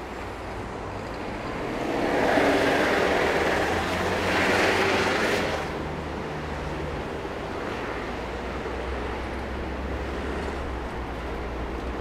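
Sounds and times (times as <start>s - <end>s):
cars driving past: 0.0s - 12.0s
low rumble of engines: 0.0s - 12.0s.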